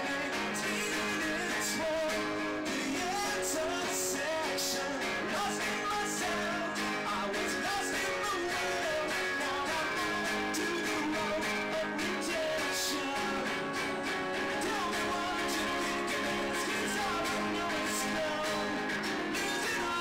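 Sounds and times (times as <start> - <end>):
man singing: 0.0 - 20.0
strummed acoustic guitars: 0.0 - 20.0.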